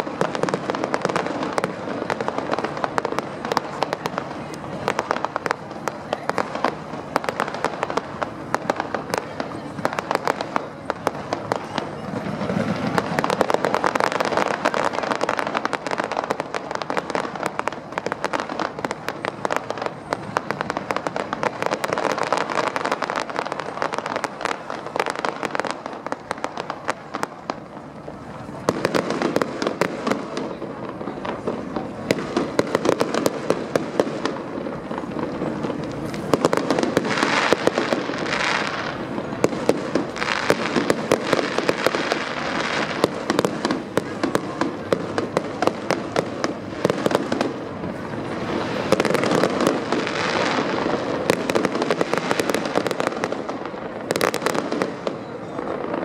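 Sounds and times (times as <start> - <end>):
fireworks bangs: 0.0 - 56.0
fireworks crackling and popping: 0.0 - 56.0.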